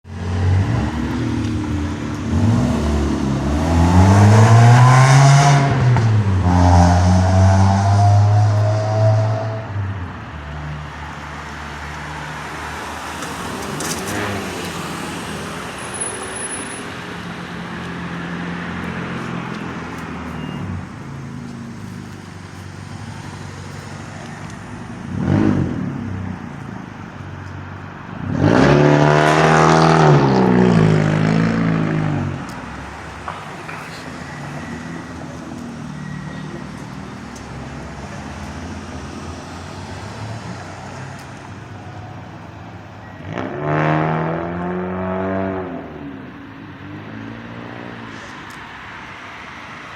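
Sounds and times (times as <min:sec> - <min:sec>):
steady traffic engine hum: 0:00.0 - 0:49.9
vehicles passing: 0:00.0 - 0:49.9.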